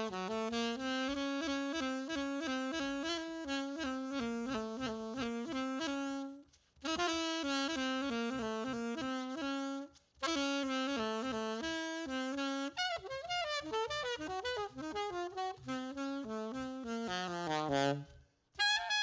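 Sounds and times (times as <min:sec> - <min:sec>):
saxophone playing jazz melody: 0:00.0 - 0:19.0.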